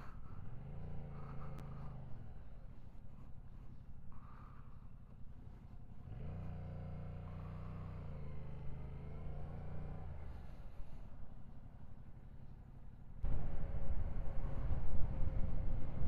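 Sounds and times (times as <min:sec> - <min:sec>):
motorcycle engine accelerating: 0:00.0 - 0:12.6, 0:13.2 - 0:16.0.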